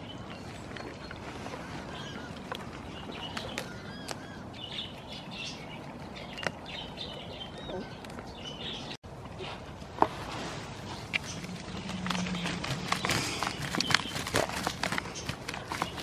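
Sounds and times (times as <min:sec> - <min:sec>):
small birds chirping: 0:00.0 - 0:09.0, 0:10.9 - 0:16.0.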